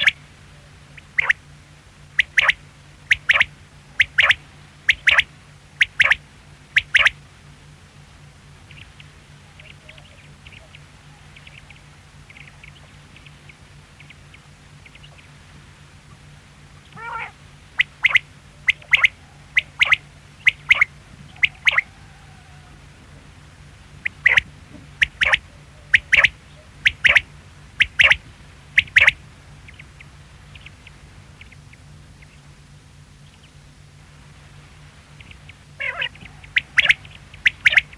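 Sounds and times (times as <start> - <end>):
quail calling: 0.0 - 7.2, 8.6 - 15.4, 16.0 - 32.5, 35.1 - 37.9.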